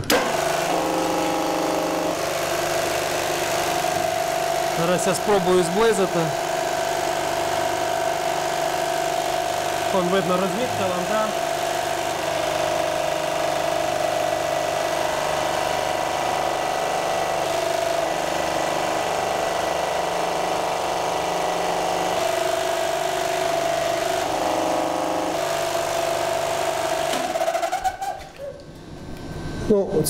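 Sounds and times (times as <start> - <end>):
electric motor humming: 0.0 - 27.6.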